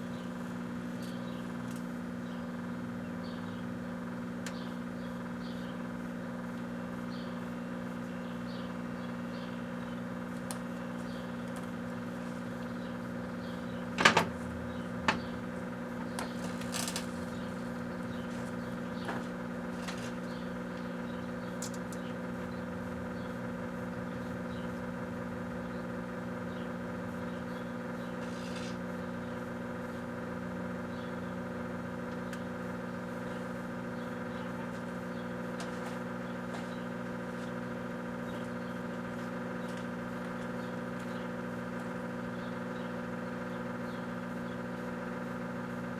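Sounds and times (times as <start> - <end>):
microwave oven humming: 0.0 - 45.9.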